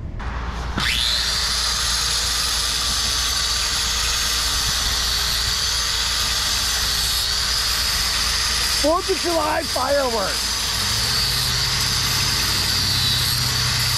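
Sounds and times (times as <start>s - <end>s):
angle grinder grinding metal: 0.8s - 13.9s.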